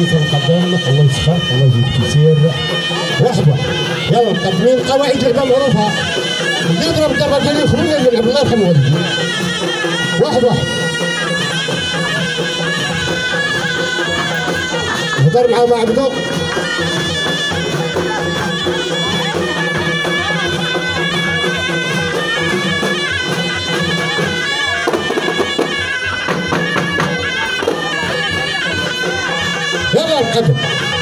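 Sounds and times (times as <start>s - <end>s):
frame drums beating: 0.0s - 31.0s
shawms playing reedy melody: 0.0s - 31.0s.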